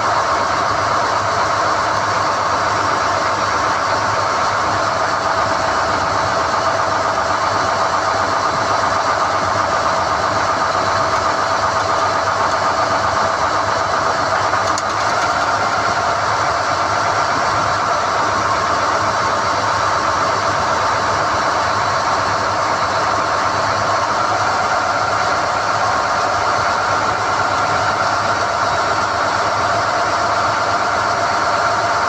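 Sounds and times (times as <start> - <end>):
drilling rig running with whine: 0.0 - 32.0.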